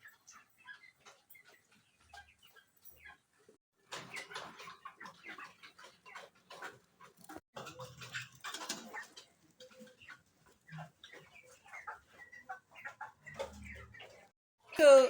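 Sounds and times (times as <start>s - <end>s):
chickens cheeping and clucking: 0.0s - 15.0s.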